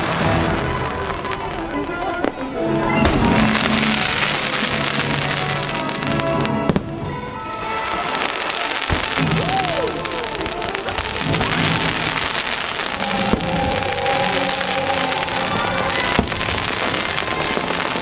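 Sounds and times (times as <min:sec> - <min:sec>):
fireworks bangs: 0:00.0 - 0:18.0
fireworks crackling and popping: 0:00.0 - 0:18.0
music: 0:00.0 - 0:18.0.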